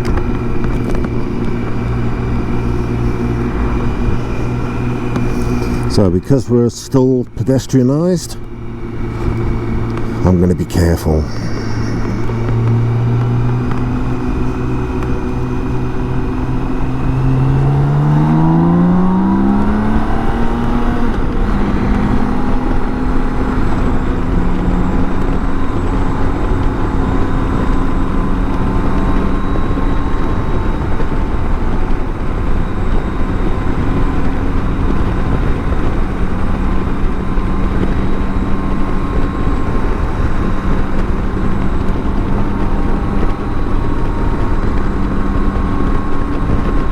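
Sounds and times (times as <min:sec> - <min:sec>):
motorcycle engine accelerating: 0:00.0 - 0:46.9
wind and road noise: 0:00.0 - 0:46.9.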